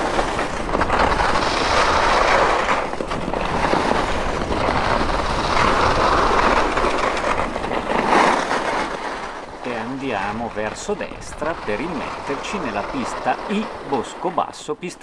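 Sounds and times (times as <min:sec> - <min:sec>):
wind rumbling on microphone: 0:00.0 - 0:14.4
skis scraping on snow: 0:00.0 - 0:15.0.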